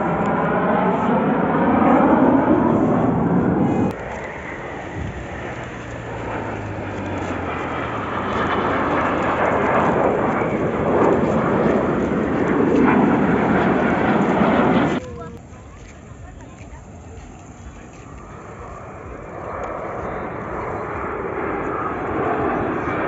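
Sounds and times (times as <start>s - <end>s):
jet aircraft flying past: 0.0s - 23.0s.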